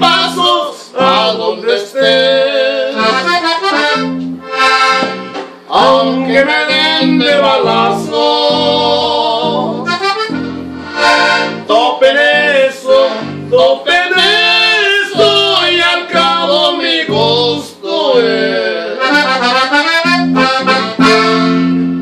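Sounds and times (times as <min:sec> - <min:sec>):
button accordion melody: 0:00.0 - 0:22.0.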